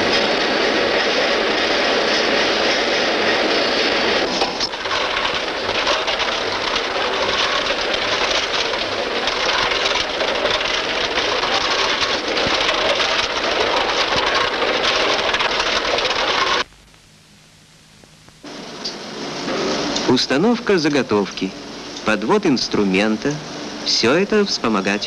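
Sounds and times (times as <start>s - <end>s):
machinery clattering and rattling: 0.0s - 16.7s, 18.5s - 25.0s.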